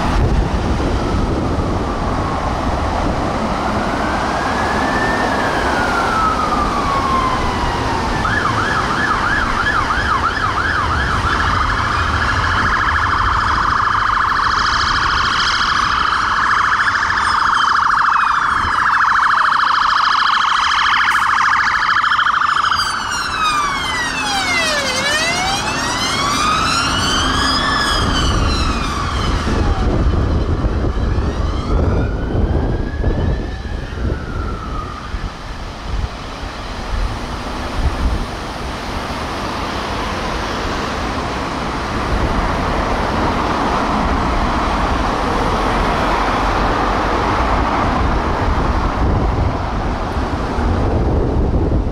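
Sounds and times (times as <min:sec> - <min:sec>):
fire engine sirens: 0:00.0 - 0:51.9
heavy vehicle engines rumbling: 0:00.0 - 0:51.9.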